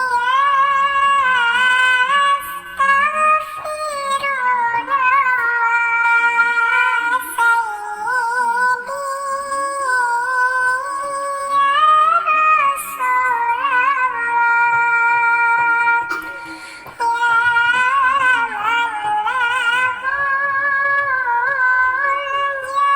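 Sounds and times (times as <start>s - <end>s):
synthetic voice singing: 0.0s - 22.9s.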